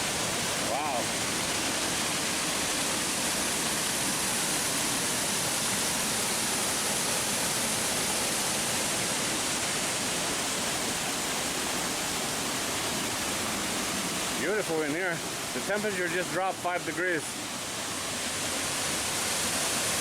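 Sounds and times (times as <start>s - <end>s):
water rushing down rocky cascades: 0.0s - 20.0s.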